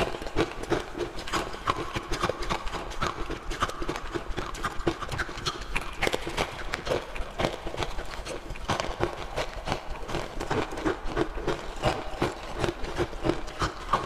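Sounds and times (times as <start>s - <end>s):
ice crunching being chewed: 0.0s - 14.0s.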